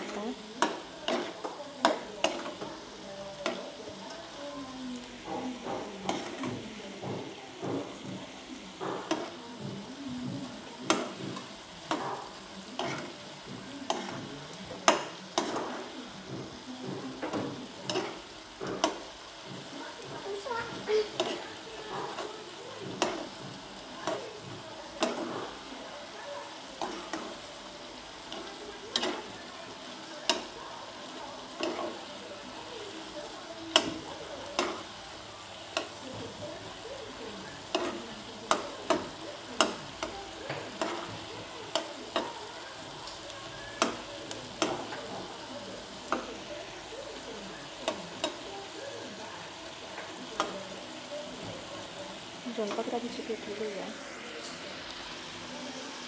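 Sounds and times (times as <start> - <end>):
spoon knocking and scraping pan: 0.0 - 4.4, 5.0 - 52.0.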